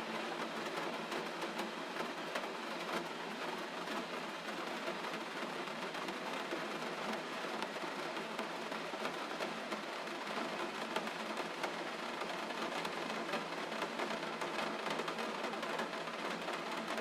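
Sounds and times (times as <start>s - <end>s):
gentle rain patter: 0.0s - 17.0s.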